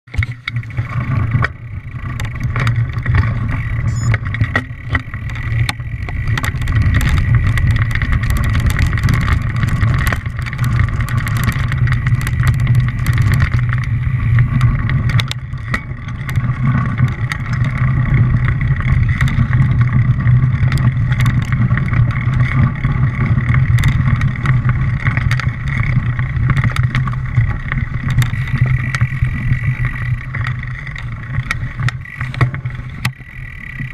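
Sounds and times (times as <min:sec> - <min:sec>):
clicks and rattles: 0:00.1 - 0:33.2
small vehicle engine running: 0:00.1 - 0:33.9.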